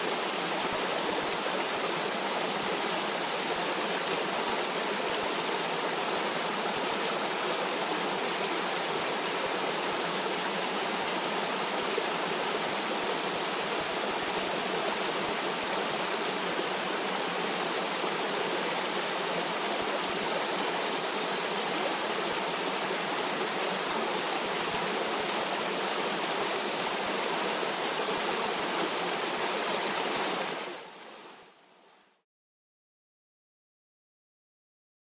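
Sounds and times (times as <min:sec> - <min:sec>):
stream water rushing: 0:00.0 - 0:31.6.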